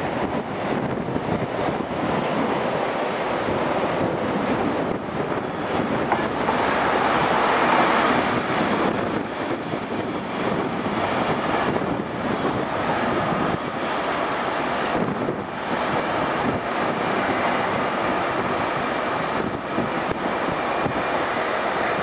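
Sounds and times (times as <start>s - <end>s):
train wheels rumbling: 0.0s - 22.0s
wind buffeting microphone: 0.0s - 22.0s.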